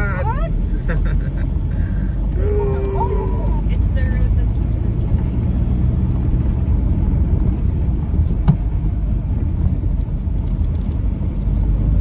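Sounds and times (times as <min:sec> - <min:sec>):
road and engine rumble in cabin: 0:00.0 - 0:12.0.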